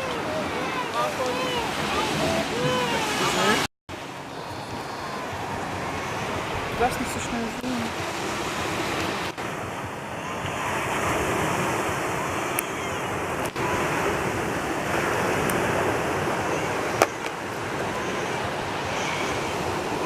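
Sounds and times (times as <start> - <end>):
sea waves washing on shore: 0.0 - 20.0.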